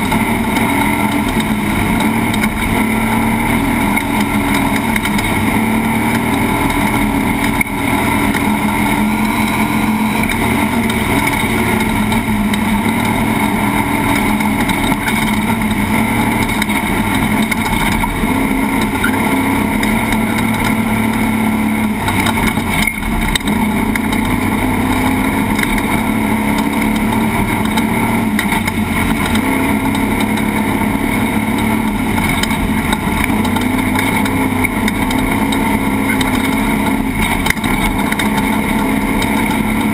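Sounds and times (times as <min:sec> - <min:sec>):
race vehicle engine running: 0:00.0 - 0:39.9
rush of driving noise: 0:00.0 - 0:39.9.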